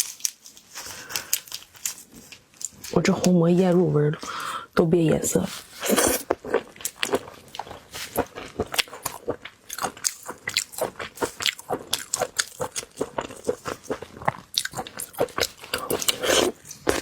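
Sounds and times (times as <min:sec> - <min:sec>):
chewing crunchy food: 0:00.0 - 0:04.5, 0:05.4 - 0:17.0.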